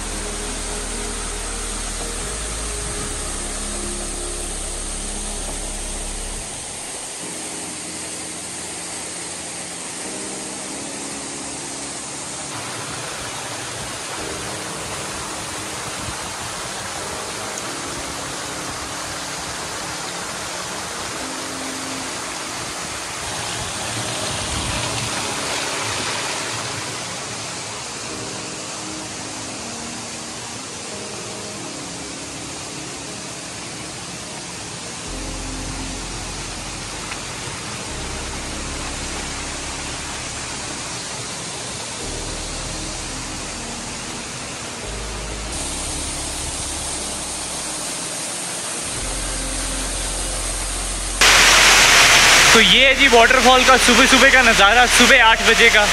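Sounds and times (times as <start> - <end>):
waterfall splashing into pool: 0.0 - 32.2, 33.2 - 55.9.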